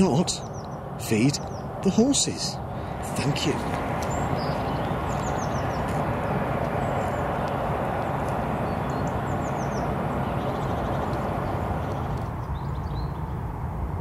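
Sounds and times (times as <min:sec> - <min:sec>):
bird chirping: 0:00.0 - 0:13.5
outdoor rushing noise: 0:00.0 - 0:14.0.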